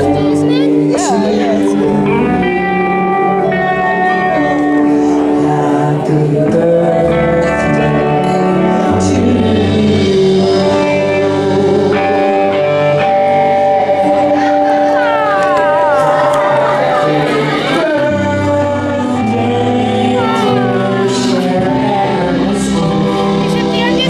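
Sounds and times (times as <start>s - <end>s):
background music with held chords: 0.0s - 24.0s
steady low bass line: 0.0s - 24.0s.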